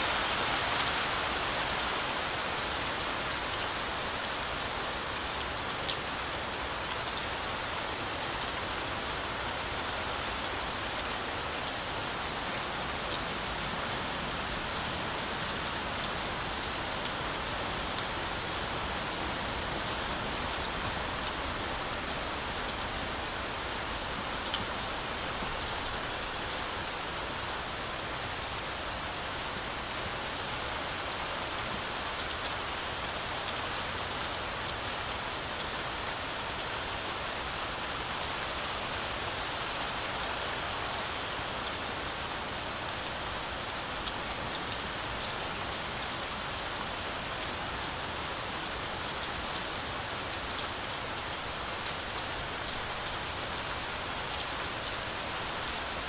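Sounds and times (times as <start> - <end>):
heavy rain on forest canopy: 0.0 - 56.0.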